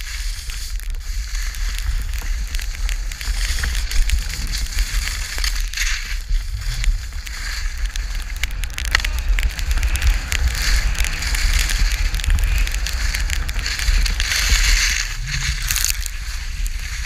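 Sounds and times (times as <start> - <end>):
skis scraping over snow: 0.0 - 17.0
wind rumble on microphone: 0.0 - 17.0.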